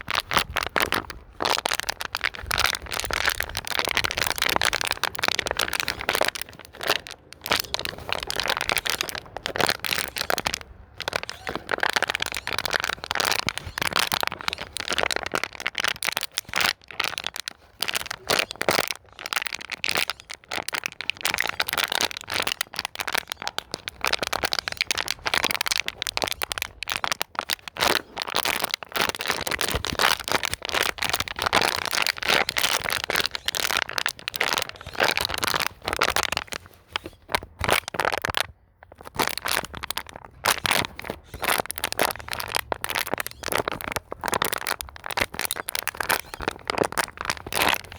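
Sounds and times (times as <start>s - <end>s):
plastic bottle crinkling: 0.0s - 47.9s.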